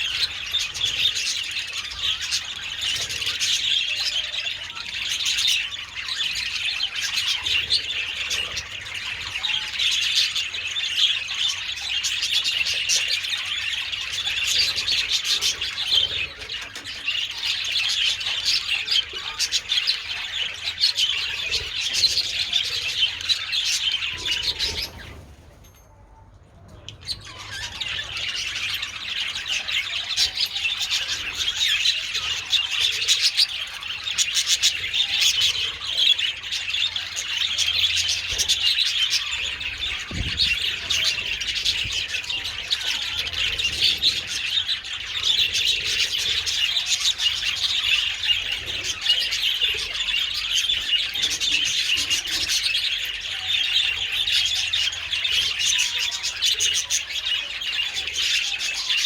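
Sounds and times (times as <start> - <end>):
budgerigars chattering: 0.0 - 25.4, 26.9 - 59.0.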